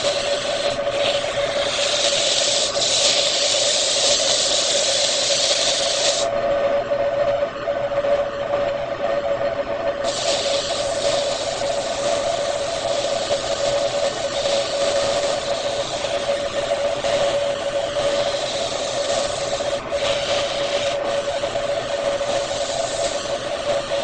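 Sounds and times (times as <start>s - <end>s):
tool rasping against spinning wood: 0.0s - 6.3s, 10.0s - 24.0s
wood lathe humming: 0.0s - 6.3s, 10.0s - 24.0s.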